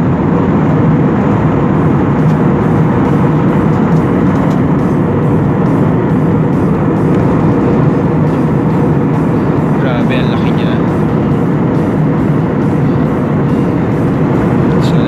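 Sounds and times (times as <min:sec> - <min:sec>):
airliner cabin engine and airflow noise: 0:00.0 - 0:15.0.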